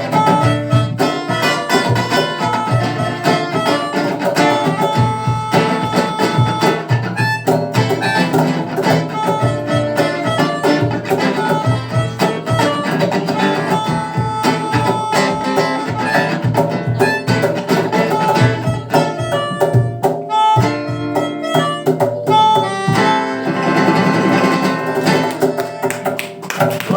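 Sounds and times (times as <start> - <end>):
drum beat: 0.0 - 26.9
electric guitars: 0.0 - 26.9.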